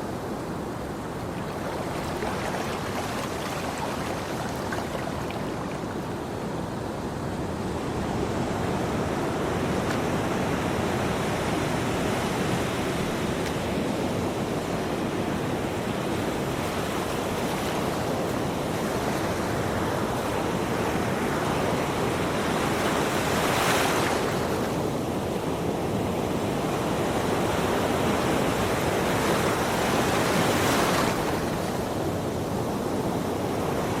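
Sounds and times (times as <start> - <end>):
waves breaking: 0.0 - 7.2, 8.0 - 33.8
ocean waves washing: 0.0 - 34.0.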